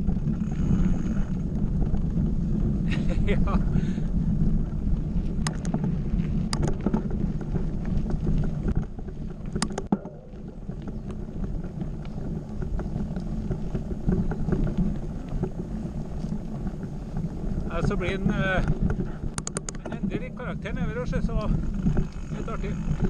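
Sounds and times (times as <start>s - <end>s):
bike clicks and rattles: 0.0s - 23.0s
bike tyres rumbling on dirt: 0.0s - 23.0s
wind buffeting microphone: 0.0s - 23.0s.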